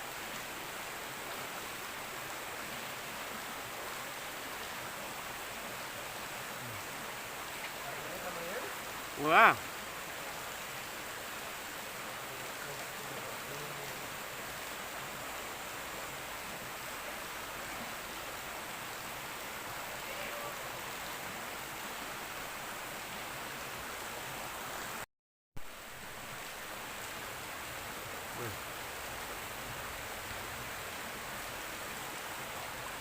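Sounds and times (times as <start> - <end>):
river water flowing over rocks: 0.0 - 25.0, 25.6 - 33.0.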